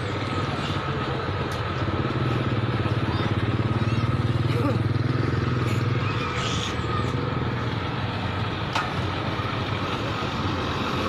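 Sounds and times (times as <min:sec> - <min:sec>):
diesel engine idling: 0:00.0 - 0:10.8.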